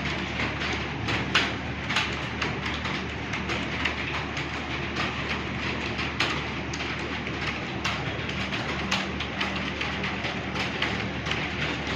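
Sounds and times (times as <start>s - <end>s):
keyboards typing clatter: 0.0s - 11.9s.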